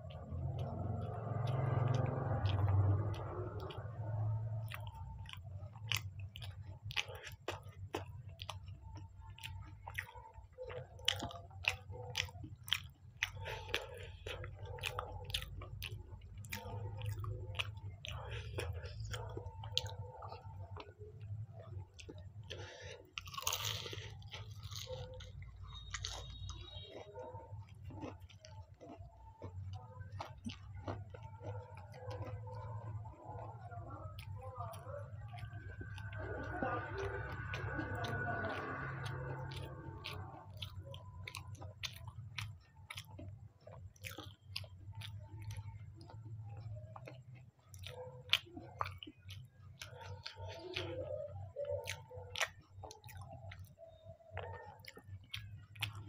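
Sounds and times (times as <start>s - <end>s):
person chewing crisp food: 0.0s - 56.0s.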